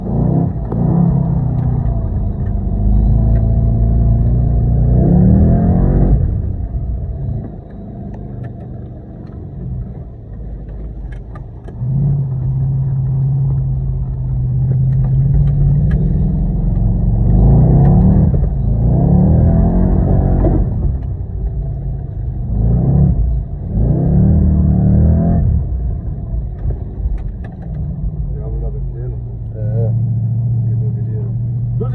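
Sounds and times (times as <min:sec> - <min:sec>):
off-road vehicle engine revving: 0:00.0 - 0:31.9.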